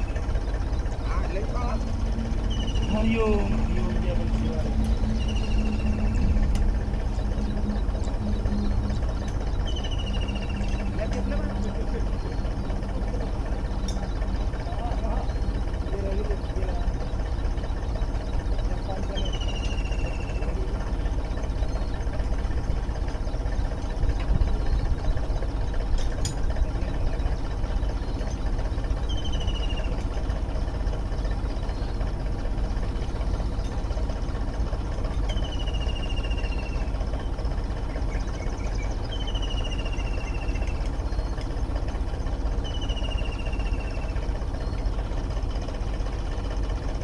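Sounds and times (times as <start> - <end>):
diesel tractor engine: 0.0 - 47.0.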